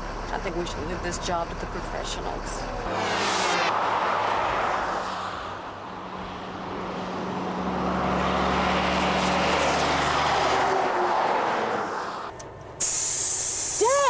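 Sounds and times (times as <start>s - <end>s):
truck engine hum: 0.0s - 14.0s.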